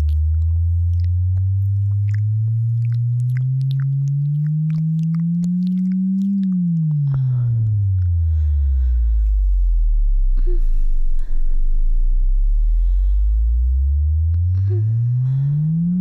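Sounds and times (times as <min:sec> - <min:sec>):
sine tone bass sweep: 0:00.0 - 0:16.0.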